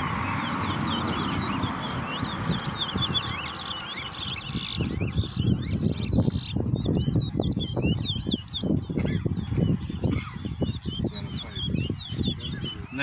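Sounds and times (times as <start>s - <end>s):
finches twittering: 0.0s - 13.0s.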